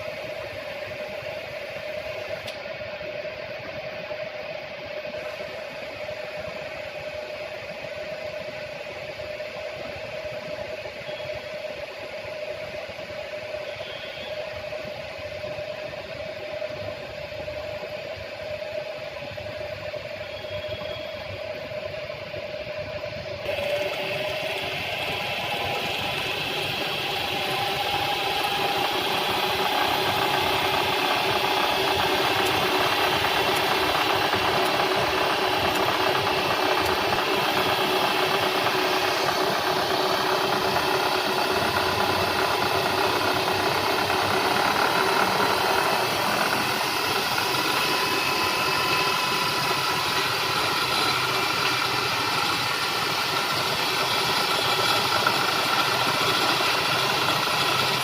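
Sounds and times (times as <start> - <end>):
milling machine hum and rattle: 0.0 - 58.0
spindle drive whining: 0.0 - 58.0.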